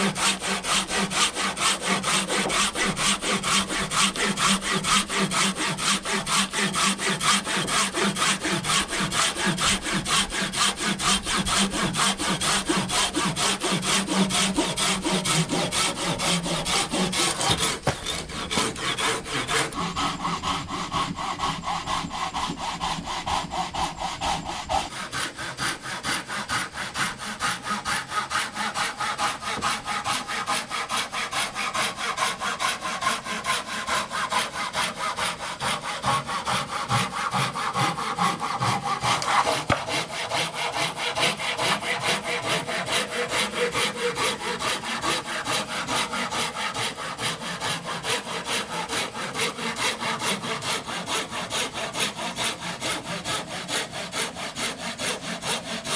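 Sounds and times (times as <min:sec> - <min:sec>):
hand saw cutting wood: 0:00.0 - 0:55.9.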